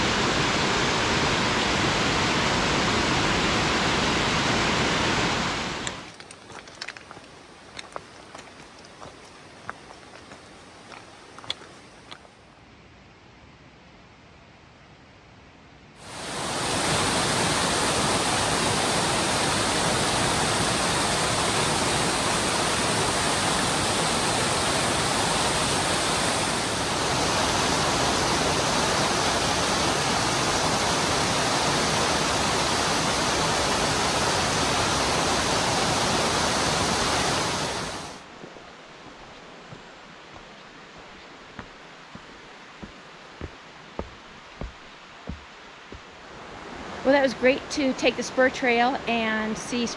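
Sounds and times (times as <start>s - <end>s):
waterfall rushing: 0.0s - 9.3s, 16.0s - 48.2s.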